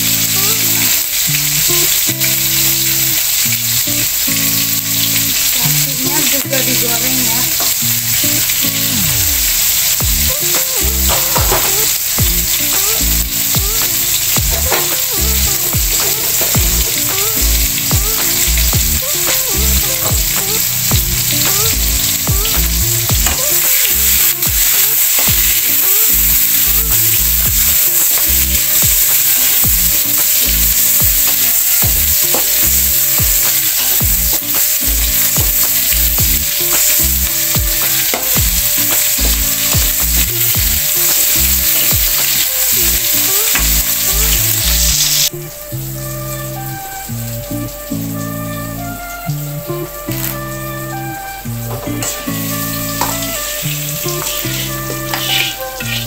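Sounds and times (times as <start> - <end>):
rice sizzling in hot oil: 0.0 - 56.0.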